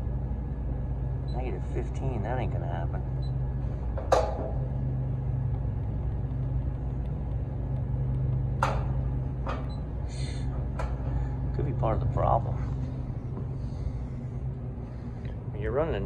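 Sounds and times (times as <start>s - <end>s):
freezer refrigeration unit humming: 0.0s - 16.0s.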